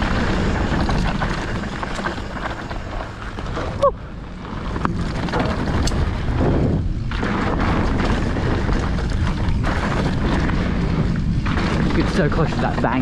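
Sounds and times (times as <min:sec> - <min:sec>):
bike clicks: 0:00.0 - 0:12.7
bike tyres rolling on dirt: 0:00.0 - 0:13.0
wind buffeting microphone: 0:00.0 - 0:13.0.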